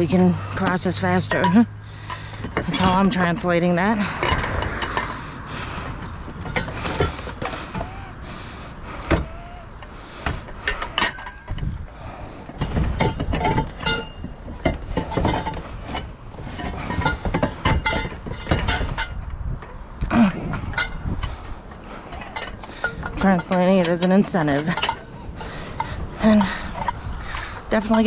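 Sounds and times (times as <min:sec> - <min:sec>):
low vehicle rumble: 0:00.0 - 0:28.0
scrap metal clanking: 0:00.0 - 0:28.0.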